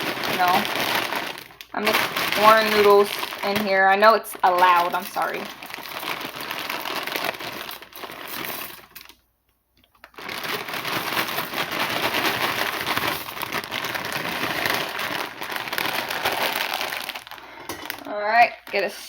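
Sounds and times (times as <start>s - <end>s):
dry noodles crackling into pot: 0.0s - 9.2s, 10.0s - 19.0s.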